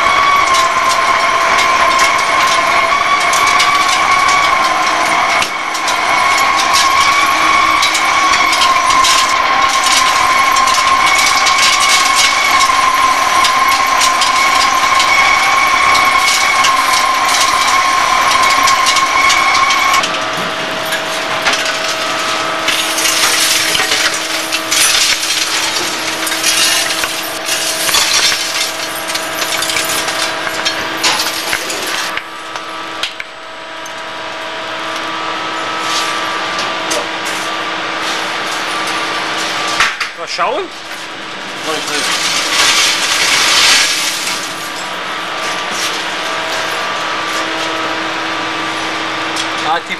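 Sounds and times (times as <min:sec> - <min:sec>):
metal chips crackling: 0:00.0 - 0:34.0, 0:38.1 - 0:48.0
machine whine: 0:00.0 - 0:49.9.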